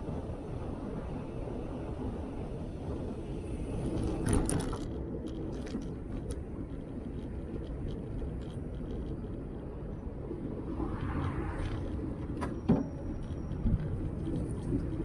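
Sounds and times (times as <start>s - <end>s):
low rumble of riding: 0.0s - 15.0s.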